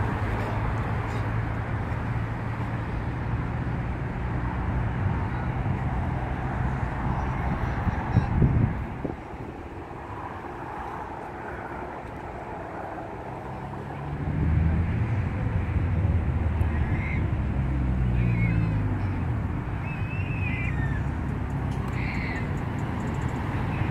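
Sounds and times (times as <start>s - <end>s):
traffic engine rumble: 0.0s - 23.9s.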